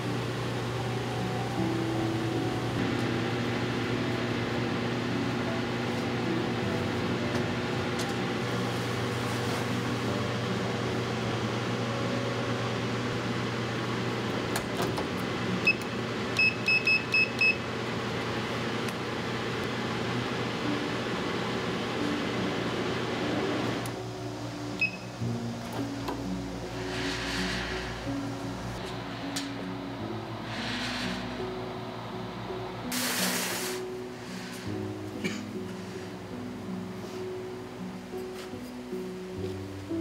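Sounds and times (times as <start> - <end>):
fan drone: 0.0 - 40.0.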